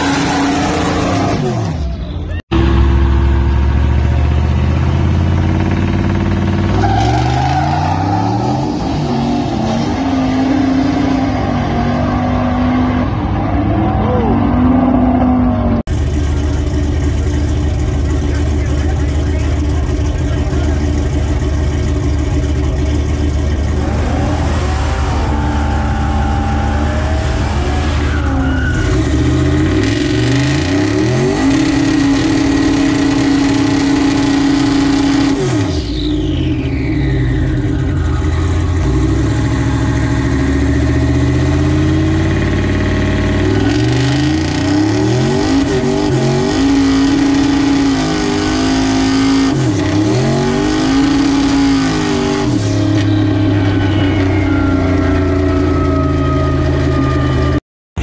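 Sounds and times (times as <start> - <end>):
pickup engine revving: 0.0 - 57.6.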